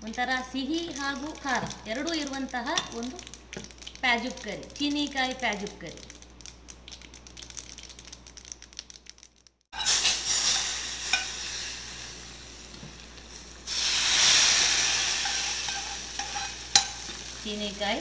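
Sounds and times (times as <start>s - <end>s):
oil sizzling loudly in pot: 0.0s - 8.7s, 9.7s - 18.0s
spices crackling in hot oil: 0.0s - 18.0s.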